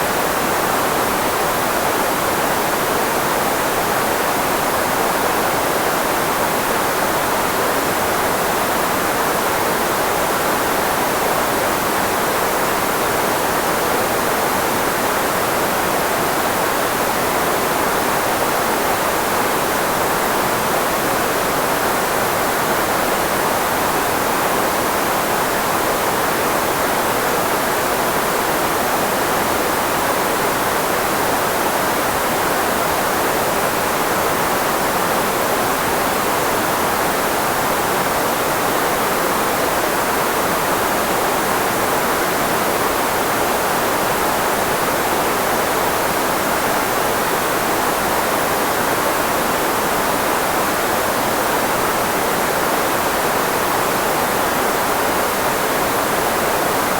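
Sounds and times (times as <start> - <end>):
steady filtered white noise hiss: 0.0 - 56.9.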